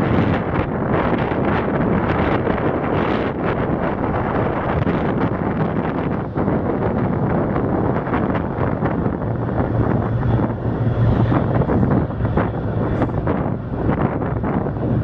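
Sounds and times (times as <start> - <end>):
ship engine drone: 0.0 - 15.0
wind buffeting microphone: 0.0 - 15.0.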